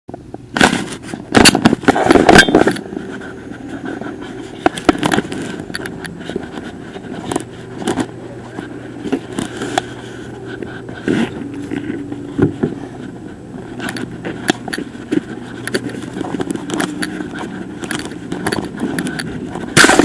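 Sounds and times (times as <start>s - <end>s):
vehicle engine humming: 1.2s - 20.0s.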